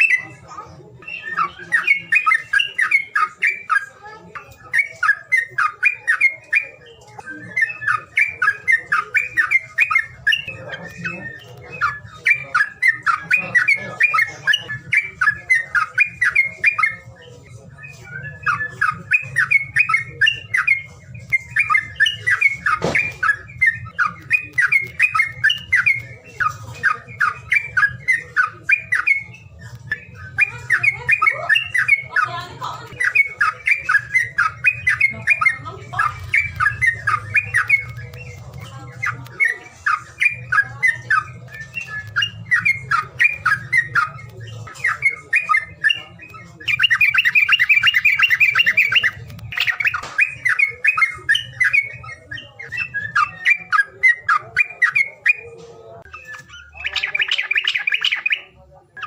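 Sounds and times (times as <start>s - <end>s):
songbird harsh chattering: 0.0s - 59.0s.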